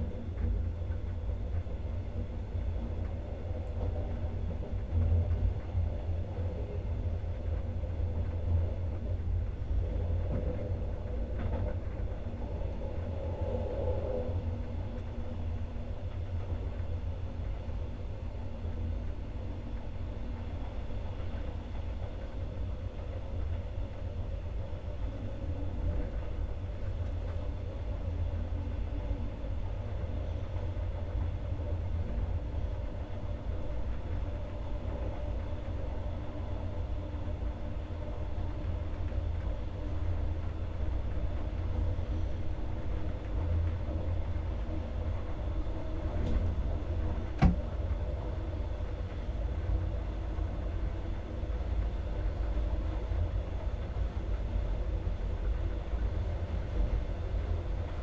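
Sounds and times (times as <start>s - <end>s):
train rumbling on board: 0.0s - 58.0s.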